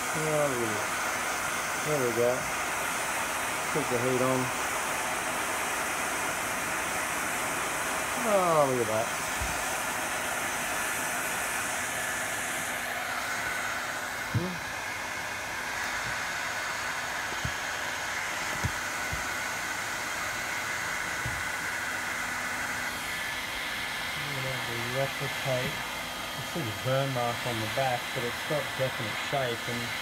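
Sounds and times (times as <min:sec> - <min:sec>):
heat gun blowing: 0:00.0 - 0:30.0.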